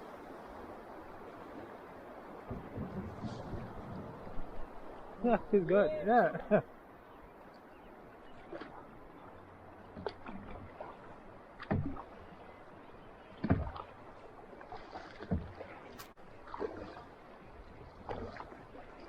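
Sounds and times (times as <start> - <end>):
kayak paddle splashing: 0.0 - 19.0.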